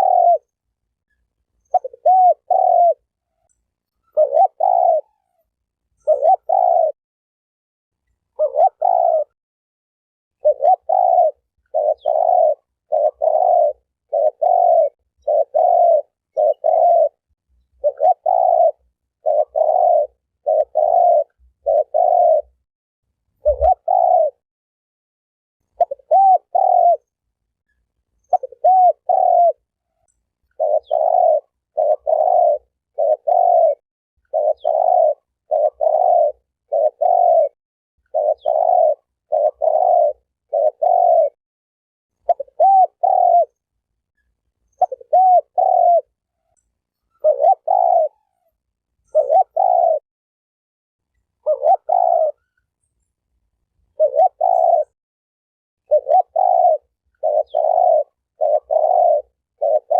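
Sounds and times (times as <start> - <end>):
turtle dove cooing: 0.0 - 7.0, 8.2 - 9.4, 10.4 - 22.6, 23.4 - 24.4, 25.6 - 41.4, 42.2 - 50.0, 51.2 - 53.0, 53.9 - 55.0, 55.8 - 59.9.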